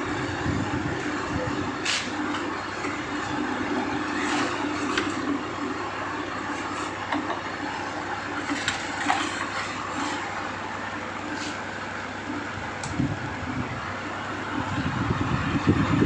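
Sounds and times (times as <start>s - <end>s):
fan air rushing: 0.0s - 16.0s
fan motor hum: 0.0s - 16.0s.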